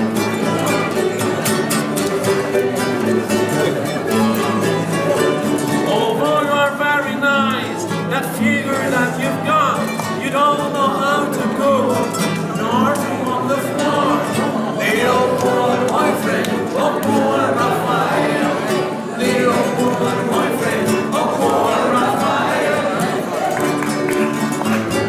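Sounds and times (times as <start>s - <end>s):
plucked strings: 0.0s - 25.0s
voices singing: 0.0s - 25.0s.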